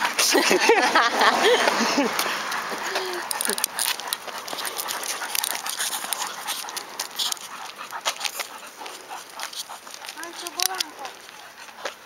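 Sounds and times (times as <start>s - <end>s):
dog panting: 0.0s - 12.0s
scuffs and clicks: 1.6s - 12.0s.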